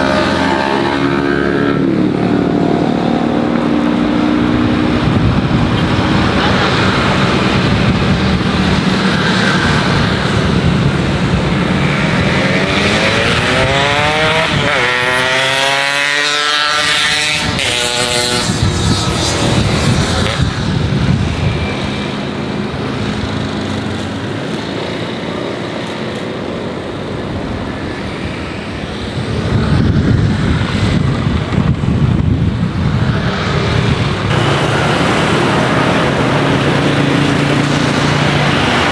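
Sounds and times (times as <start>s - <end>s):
jet engine roar: 0.0s - 38.9s.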